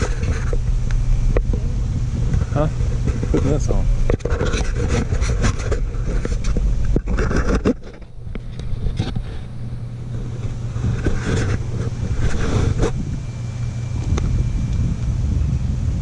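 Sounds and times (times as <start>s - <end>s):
microphone handling noise: 0.0s - 16.0s
steady low rumble: 0.0s - 16.0s.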